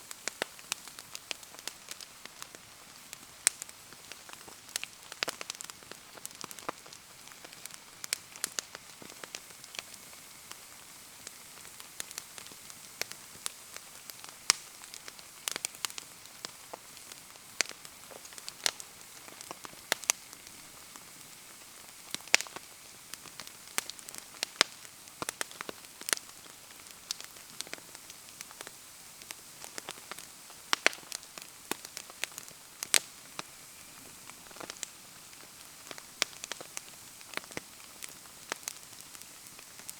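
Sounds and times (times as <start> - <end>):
bonfire crackling and popping: 0.0 - 39.9
rain hissing: 0.0 - 39.9.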